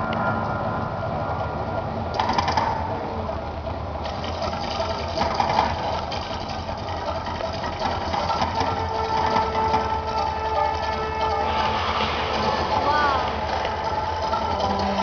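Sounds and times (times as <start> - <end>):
rumbling rattling noise: 0.0 - 15.0.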